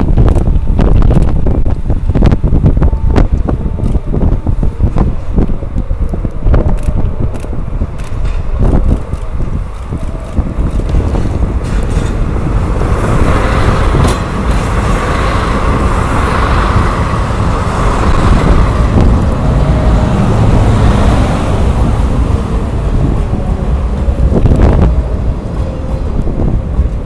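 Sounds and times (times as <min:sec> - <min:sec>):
train rumbling: 0:00.0 - 0:27.0
wind noise on microphone: 0:00.0 - 0:27.0.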